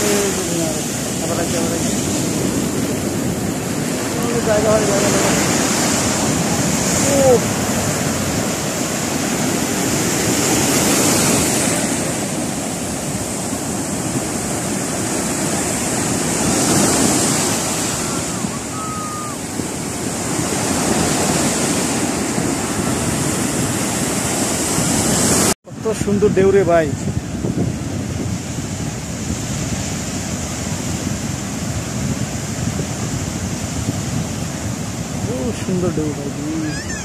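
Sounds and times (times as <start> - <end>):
surf breaking on beach: 0.0 - 37.0.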